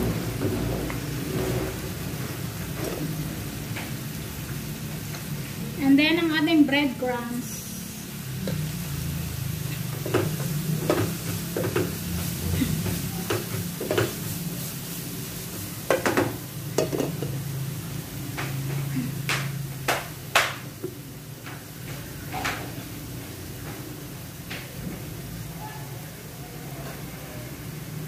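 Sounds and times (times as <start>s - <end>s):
light sizzling: 0.0s - 28.0s.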